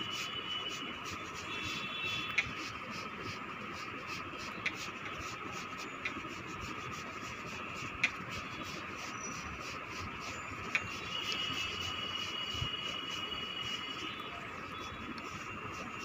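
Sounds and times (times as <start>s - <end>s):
faint mechanical whir: 0.0s - 16.0s.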